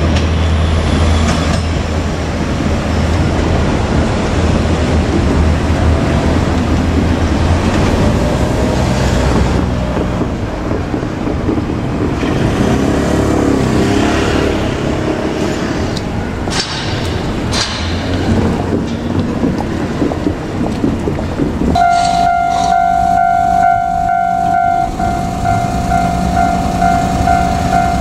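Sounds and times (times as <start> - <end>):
diesel engine drone: 0.0 - 28.0
wheels rumbling on rail: 0.0 - 28.0.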